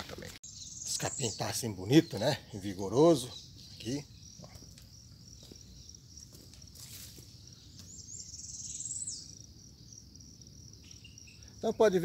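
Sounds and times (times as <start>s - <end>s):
insects trilling: 0.1s - 12.0s.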